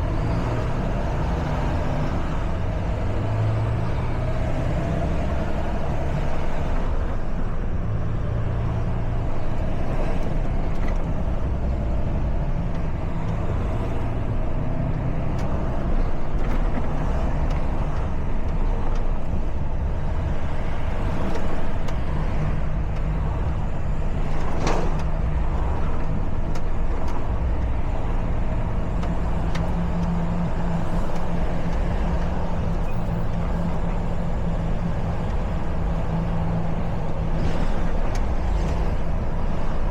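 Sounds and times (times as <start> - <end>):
truck engine drone: 0.0 - 39.9
tyre and traffic noise: 0.0 - 39.9.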